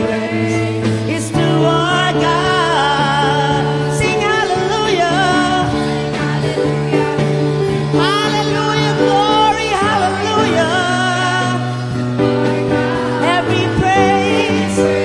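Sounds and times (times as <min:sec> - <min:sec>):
drum kit: 0:00.0 - 0:15.0
keyboard chords: 0:00.0 - 0:15.0
singers singing together: 0:00.0 - 0:15.0.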